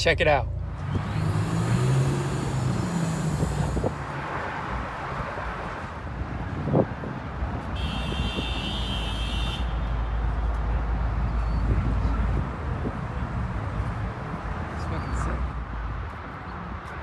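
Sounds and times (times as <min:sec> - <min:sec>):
car engines and road traffic: 0:00.0 - 0:17.0.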